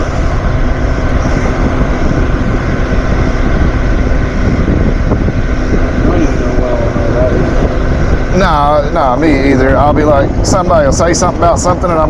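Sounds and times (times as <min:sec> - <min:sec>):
faint whine: 0:00.0 - 0:12.0
machine motor and air noise: 0:00.0 - 0:12.0.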